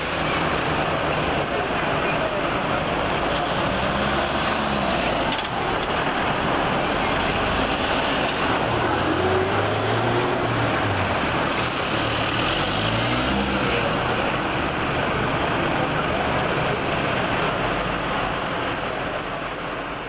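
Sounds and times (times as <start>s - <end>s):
road traffic noise: 0.0s - 20.0s
vehicle engine running low: 0.0s - 20.0s.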